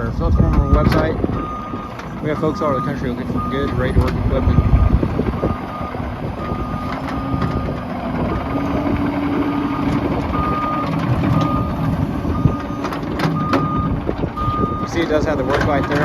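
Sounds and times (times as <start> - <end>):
diesel engine and hydraulics: 0.0 - 16.0
excavator travel alarm beeping: 0.0 - 16.0.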